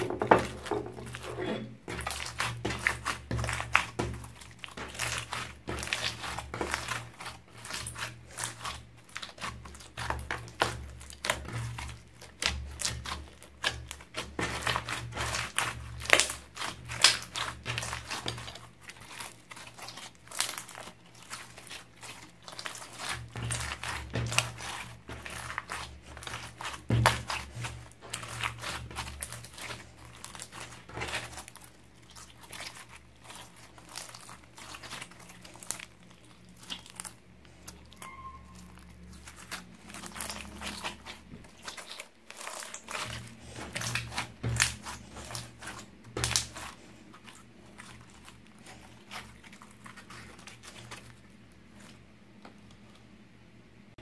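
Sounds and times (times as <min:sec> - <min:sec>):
slime squeezed with sticky crackles: 0:01.9 - 0:52.0.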